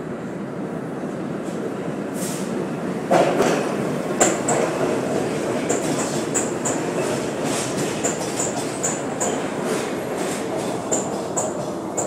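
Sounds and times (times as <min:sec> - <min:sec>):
subway train rumbling roar: 0:00.0 - 0:12.0.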